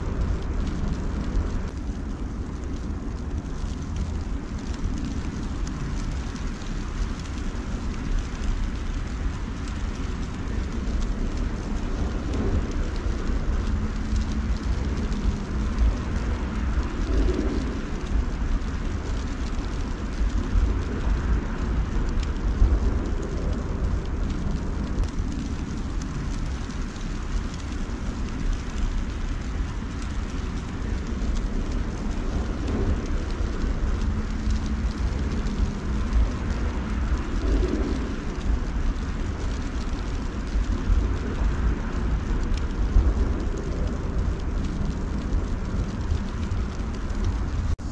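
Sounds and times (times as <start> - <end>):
wet snow falling hiss: 0.0 - 47.9
wind rumble on microphone: 0.0 - 47.9.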